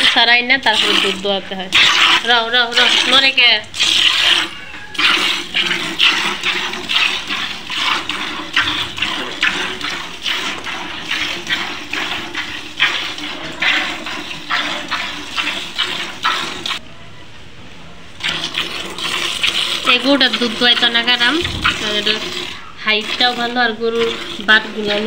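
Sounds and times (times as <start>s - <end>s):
milk squirting: 0.0s - 16.8s, 18.2s - 25.0s.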